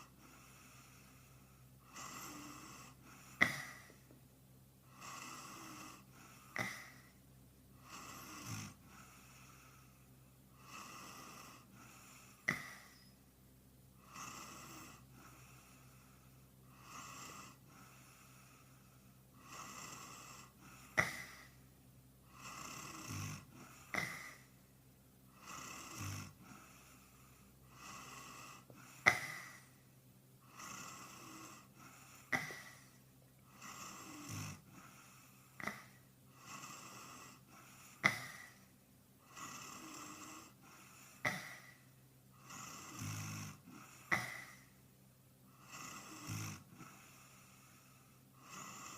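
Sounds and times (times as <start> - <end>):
man snoring: 0.0 - 4.0, 4.9 - 7.2, 7.8 - 13.1, 14.0 - 21.6, 22.3 - 24.6, 25.3 - 29.8, 30.4 - 44.8, 45.5 - 48.9.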